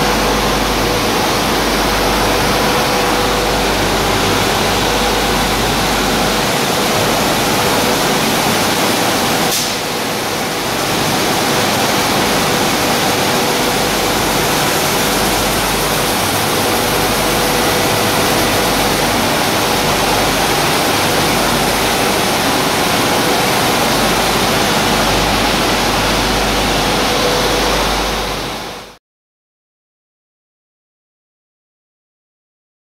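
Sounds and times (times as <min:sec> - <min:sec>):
mill machinery rushing noise: 0:00.0 - 0:29.0.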